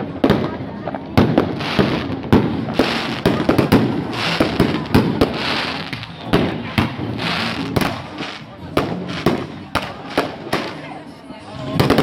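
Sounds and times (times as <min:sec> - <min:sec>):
firework rockets bursting: 0:00.0 - 0:11.0, 0:11.6 - 0:12.0.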